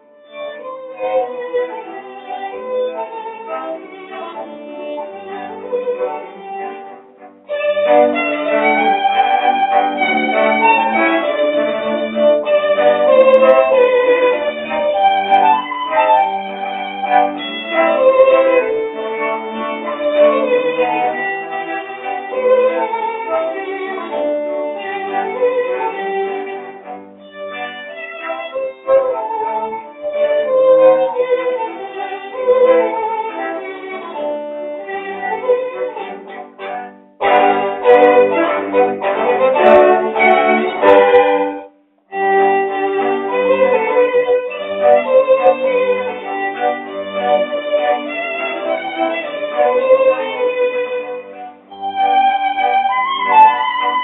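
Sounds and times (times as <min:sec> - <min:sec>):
violin-led instrumental music: 0:00.0 - 0:54.0.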